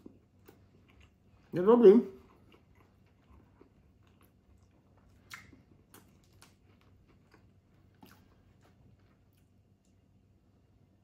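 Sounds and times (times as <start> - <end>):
person chewing food: 0.0 - 10.4.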